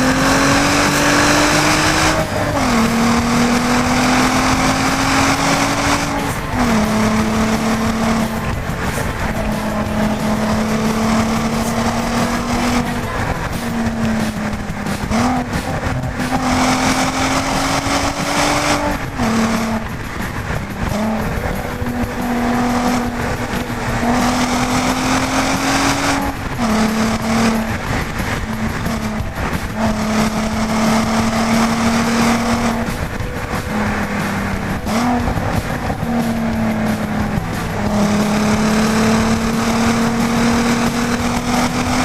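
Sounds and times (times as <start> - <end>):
car engine accelerating: 0.0 - 42.0
tyre and road noise: 0.0 - 42.0.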